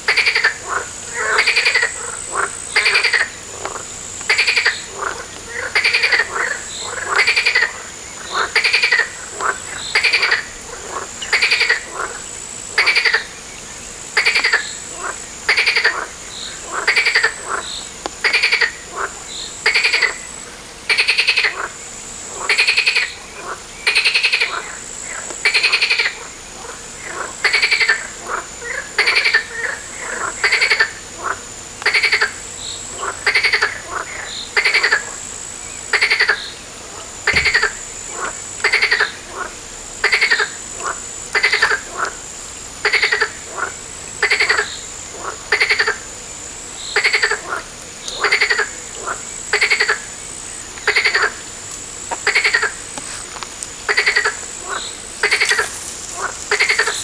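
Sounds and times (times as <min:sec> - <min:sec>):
frog croaking: 0:00.1 - 0:13.3, 0:14.2 - 0:20.3, 0:20.9 - 0:35.2, 0:35.9 - 0:46.1, 0:47.0 - 0:57.0.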